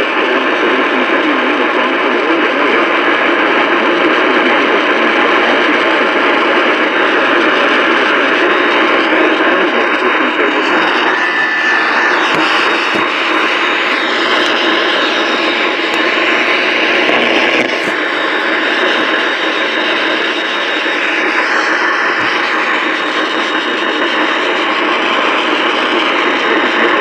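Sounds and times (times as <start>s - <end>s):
radio static hiss: 0.0s - 27.0s
faint radio tone: 3.7s - 27.0s.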